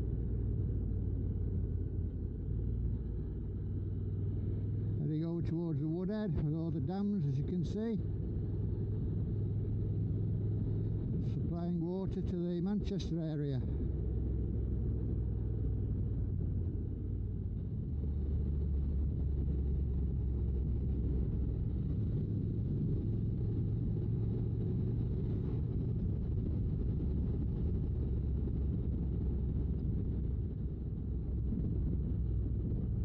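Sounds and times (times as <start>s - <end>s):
road rumble: 0.0s - 33.0s
wind: 0.0s - 33.0s.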